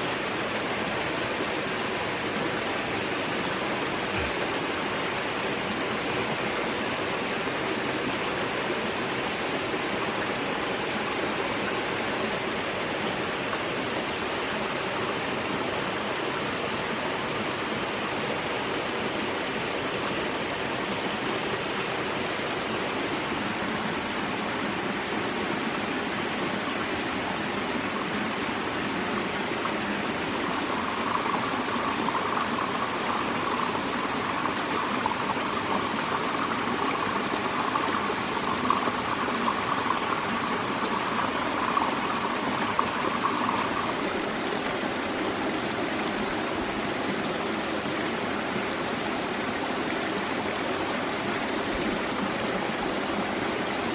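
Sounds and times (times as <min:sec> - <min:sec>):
running water rushing: 0:00.0 - 0:53.9.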